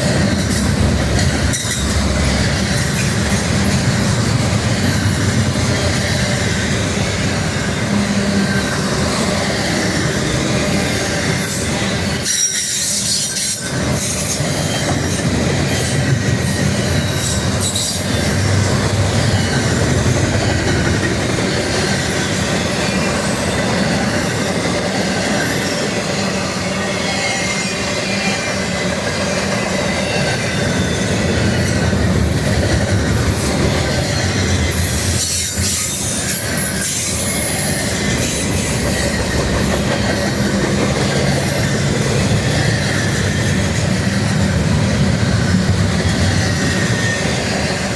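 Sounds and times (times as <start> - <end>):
train cars rumbling past: 0.0 - 47.9
metallic wheel squeal: 1.2 - 24.7, 25.3 - 44.7.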